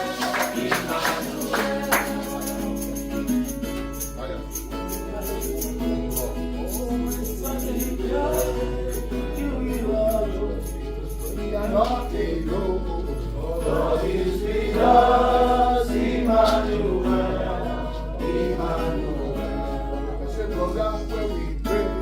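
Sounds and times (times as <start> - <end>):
gospel choir singing: 0.0 - 22.0.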